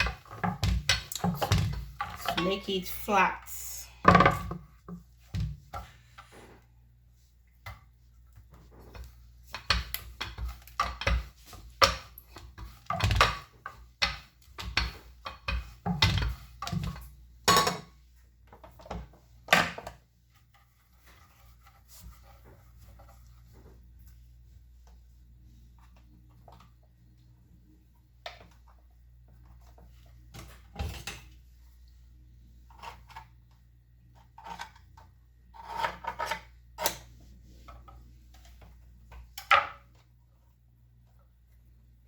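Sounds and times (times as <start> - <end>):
rolling pin on dough: 0.0 - 3.3, 4.0 - 40.1.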